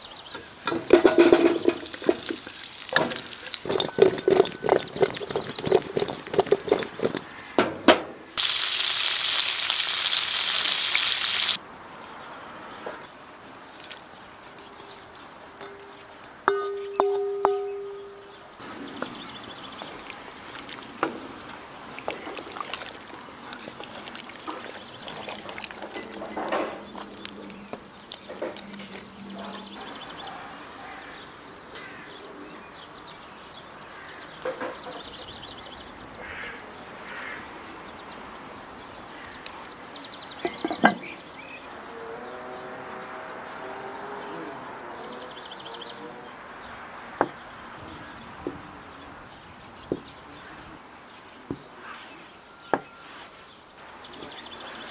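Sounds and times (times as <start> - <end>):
birds chirping: 0.0 - 8.4, 10.3 - 54.9.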